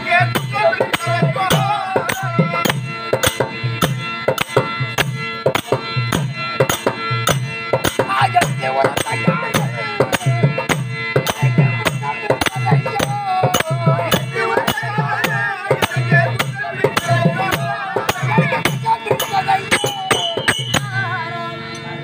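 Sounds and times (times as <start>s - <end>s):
man singing: 0.0s - 3.5s, 7.2s - 22.0s
harmonium drone: 0.0s - 22.0s
barrel drum beating: 0.2s - 21.0s.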